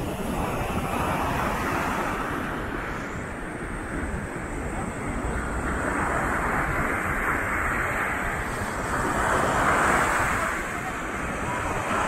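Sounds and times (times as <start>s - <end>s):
sea surf breaking on sand: 0.0s - 12.0s
wind rumbling on microphone: 0.0s - 12.0s.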